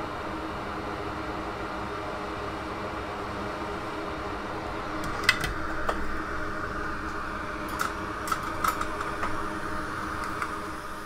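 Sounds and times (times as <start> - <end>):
fan whirring: 0.0 - 11.0.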